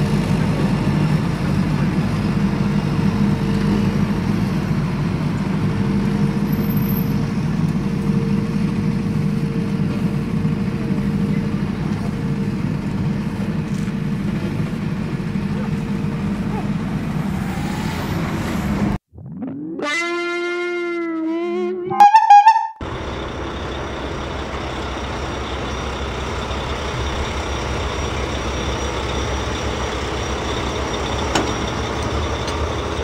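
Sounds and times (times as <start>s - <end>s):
vehicle engine running: 0.0s - 19.0s, 22.8s - 33.0s.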